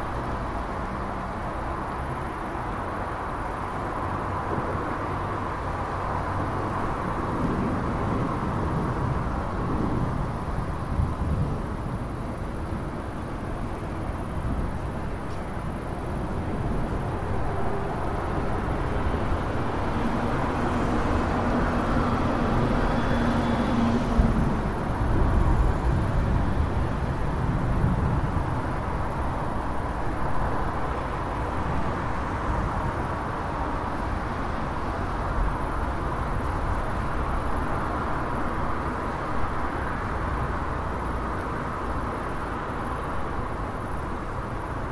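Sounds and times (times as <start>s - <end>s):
vehicles going by: 0.0s - 44.9s.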